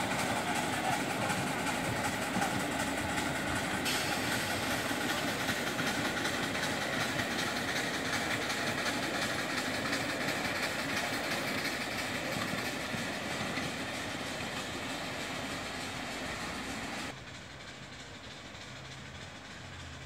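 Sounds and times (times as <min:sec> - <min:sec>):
miniature steam train running: 0:00.0 - 0:20.0.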